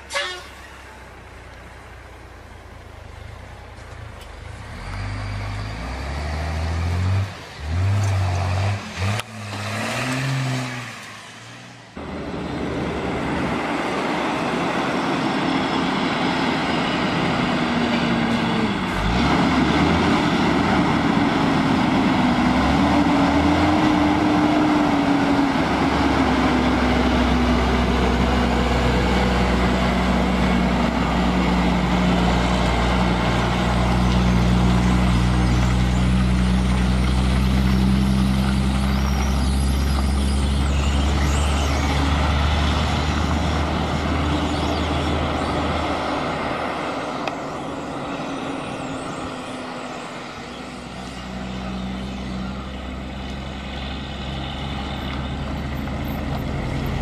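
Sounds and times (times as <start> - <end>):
truck diesel engine driving past: 0.0 - 57.0.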